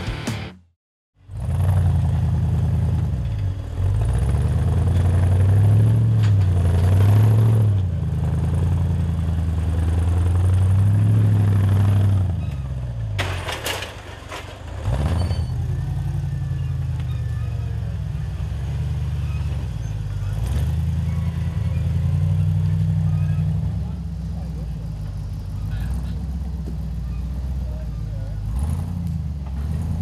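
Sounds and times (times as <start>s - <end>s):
buggy engine revving: 1.2s - 30.0s.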